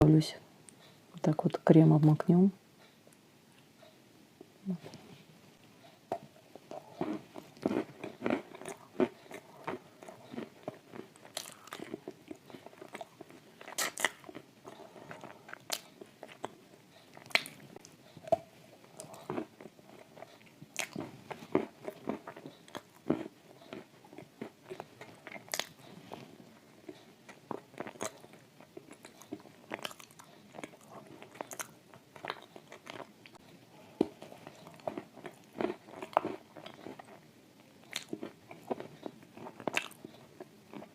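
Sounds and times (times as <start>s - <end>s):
crunchy cookie chewing: 6.1s - 40.9s.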